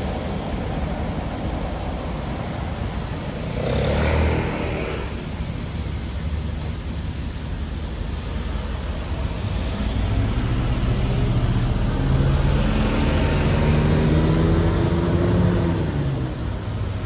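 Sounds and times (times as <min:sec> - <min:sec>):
bus engine accelerating past: 0:00.0 - 0:06.8, 0:07.9 - 0:17.0
traffic noise: 0:00.0 - 0:17.0.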